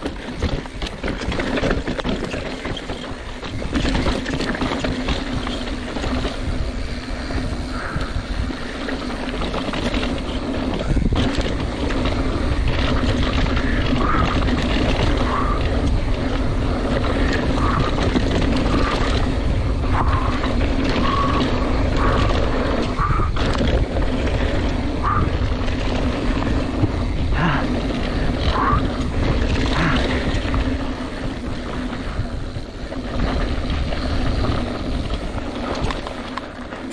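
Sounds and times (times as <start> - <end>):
bike tyre rumble: 0.0 - 36.9
wind on microphone: 0.0 - 36.9.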